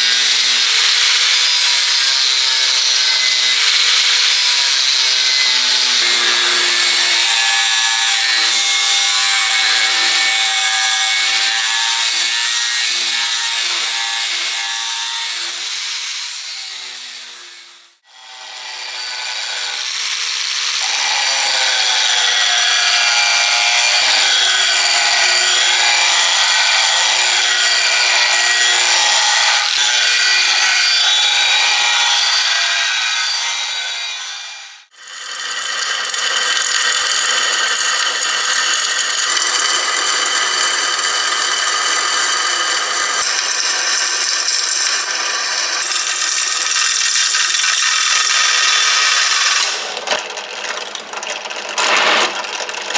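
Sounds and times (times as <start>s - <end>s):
power tool grinding: 0.0s - 52.9s.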